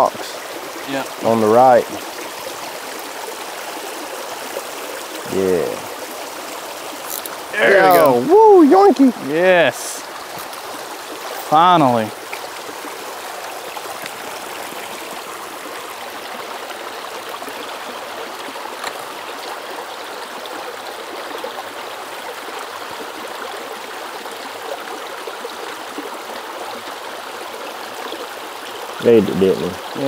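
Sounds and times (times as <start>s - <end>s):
creek water babbling over rocks: 0.0s - 30.0s.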